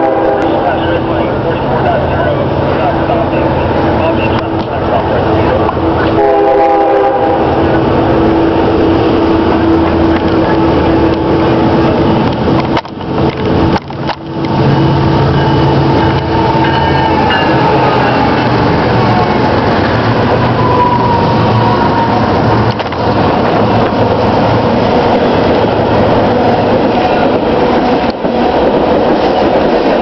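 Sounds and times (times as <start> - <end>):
freight cars rolling past: 0.0 - 30.0
locomotive engines running: 0.0 - 30.0.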